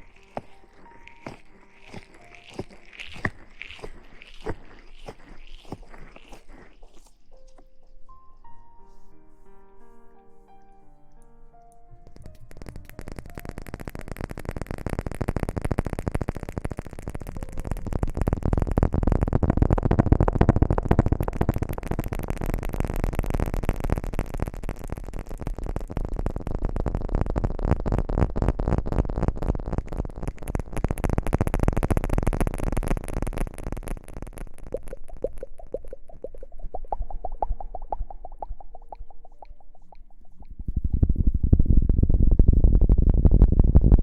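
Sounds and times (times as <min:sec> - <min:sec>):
crackling rustle: 0:00.0 - 0:08.1, 0:12.1 - 0:40.6.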